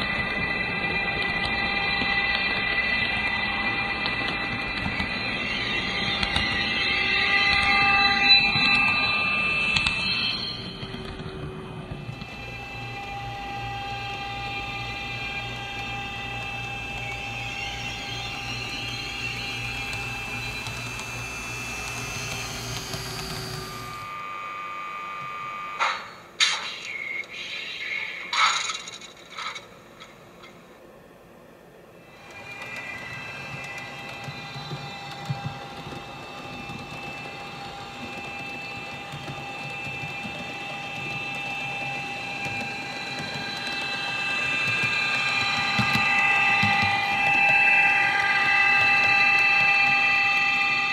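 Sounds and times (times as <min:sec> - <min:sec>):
model train running on track: 0:00.0 - 0:26.6, 0:31.6 - 0:50.9.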